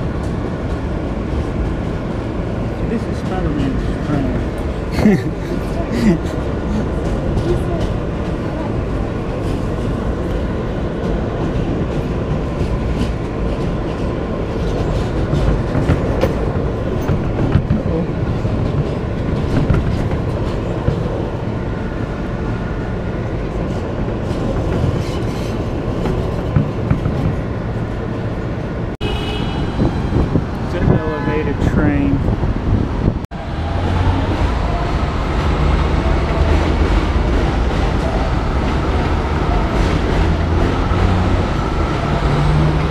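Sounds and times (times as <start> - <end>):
rail clicks and clacks: 0.0 - 29.0, 29.7 - 42.9
subway wheels rumbling on rails: 0.0 - 42.9.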